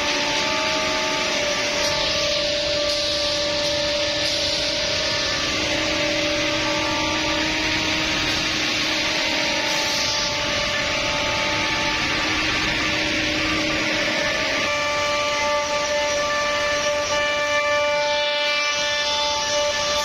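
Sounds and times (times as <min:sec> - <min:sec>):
router spindle whine: 0:00.0 - 0:20.0
wood cutting hiss: 0:00.0 - 0:20.0.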